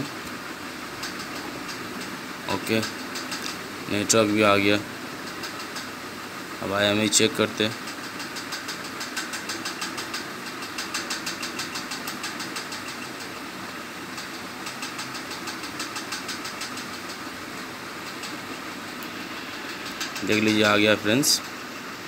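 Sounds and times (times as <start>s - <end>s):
machine hum: 0.0s - 22.0s
rapid even ticking: 0.8s - 21.6s.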